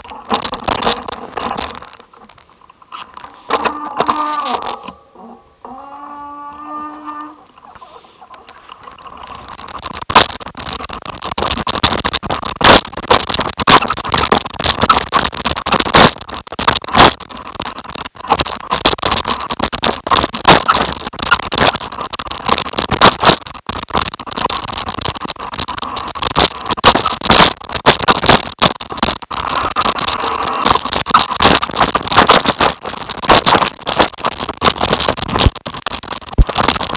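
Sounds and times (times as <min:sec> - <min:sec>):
tyres rolling over dirt and stone: 0:00.0 - 0:36.9.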